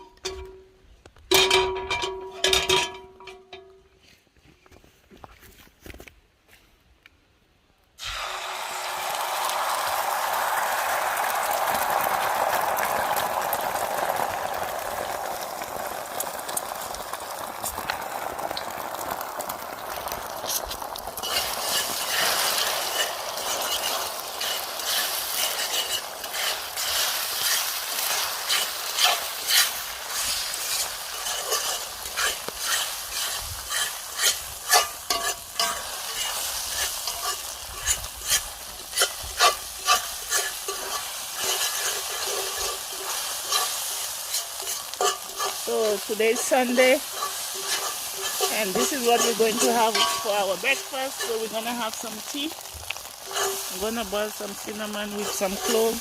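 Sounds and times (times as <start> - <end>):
eggs sizzling and popping in pan: 8.0 - 56.0.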